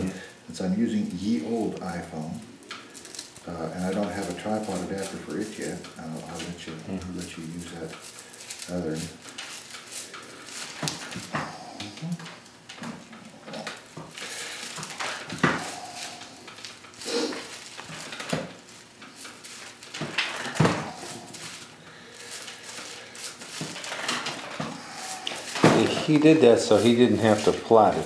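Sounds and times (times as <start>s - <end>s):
straw and twine rustling: 0.0s - 28.0s.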